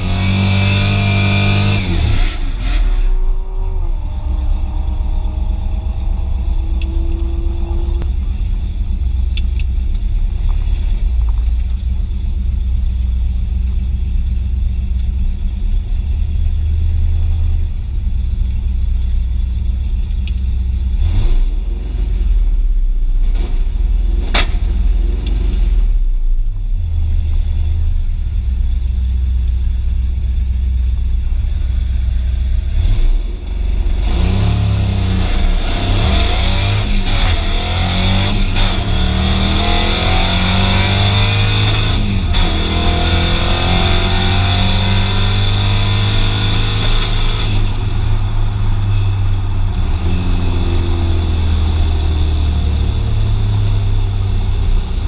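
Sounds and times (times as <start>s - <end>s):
car engine rumbling and accelerating: 0.0s - 55.0s.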